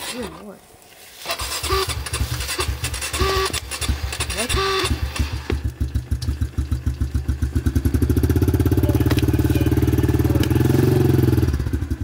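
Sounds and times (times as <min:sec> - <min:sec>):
small motorbike engine running: 0:01.3 - 0:12.0.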